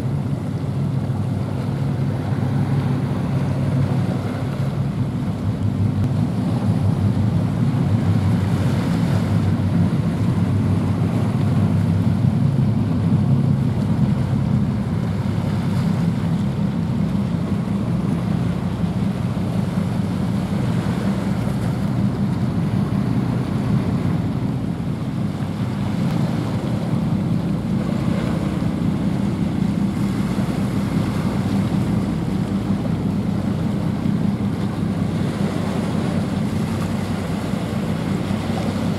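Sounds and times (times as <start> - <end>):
ship engines droning: 0.0 - 38.9
water washing along hull: 0.0 - 38.9.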